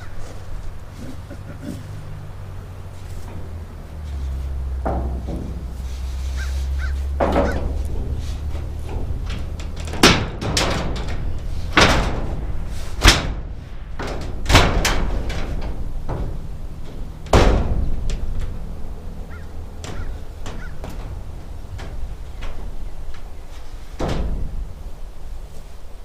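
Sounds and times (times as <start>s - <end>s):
sheet metal banging: 0.0s - 25.8s.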